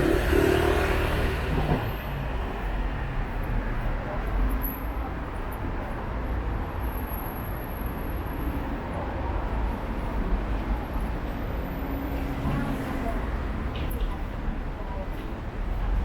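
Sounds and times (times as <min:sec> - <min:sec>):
traffic rumble of cars and buses: 0:00.0 - 0:16.0.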